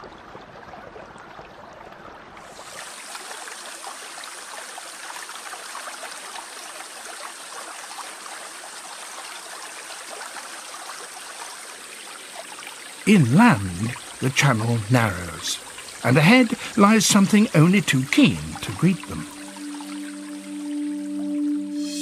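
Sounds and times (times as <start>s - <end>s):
water flowing and trickling: 0.0s - 22.0s.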